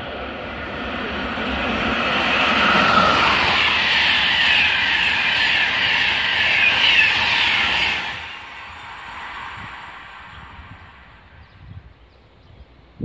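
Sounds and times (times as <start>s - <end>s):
train wheels rushing on rail: 0.0s - 12.0s
train whine: 0.0s - 12.4s.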